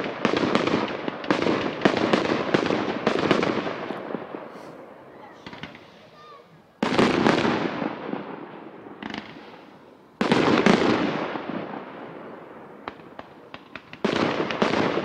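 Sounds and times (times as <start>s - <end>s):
fireworks bursting with bangs: 0.0s - 15.0s
sharp firework cracks: 0.0s - 15.0s.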